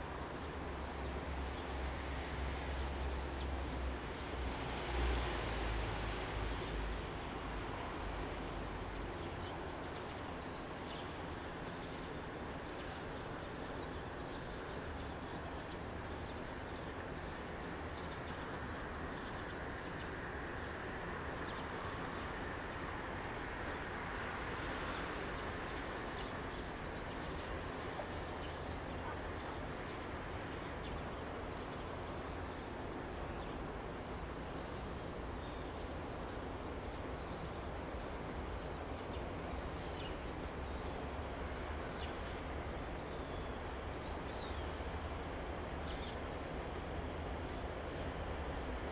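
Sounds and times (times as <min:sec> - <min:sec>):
outdoor background hiss: 0:00.0 - 0:48.9.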